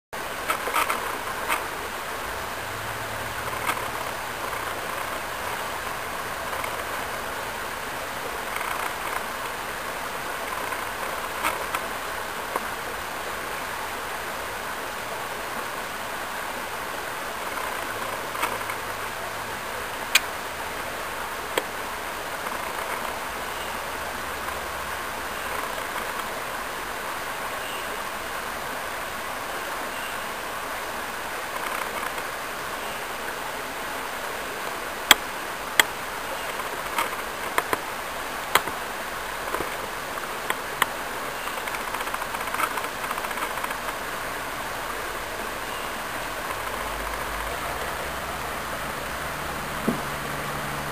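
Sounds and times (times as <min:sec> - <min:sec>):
flowing creek water: 0:00.1 - 0:50.9.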